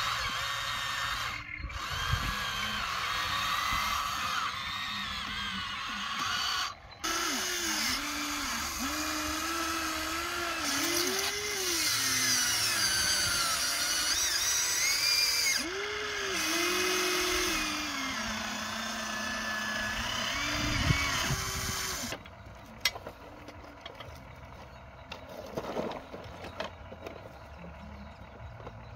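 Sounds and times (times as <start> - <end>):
toy electric motors whining: 0.0 - 28.9.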